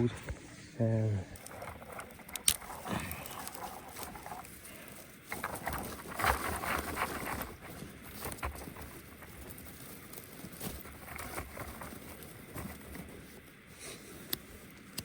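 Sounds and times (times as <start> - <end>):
faint clicks and rustles: 0.1 - 15.0.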